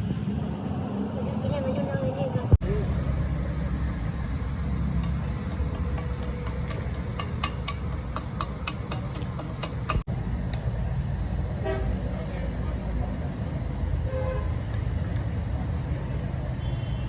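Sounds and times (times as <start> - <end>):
low rumble of traffic or engine: 0.0 - 17.0.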